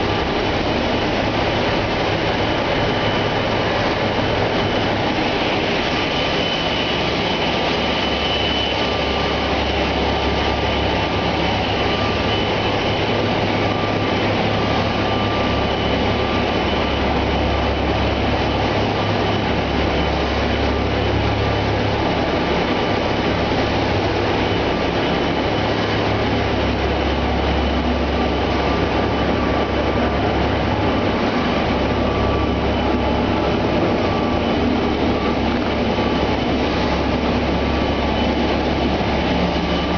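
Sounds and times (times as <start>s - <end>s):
machinery running with low hum: 0.0s - 39.9s.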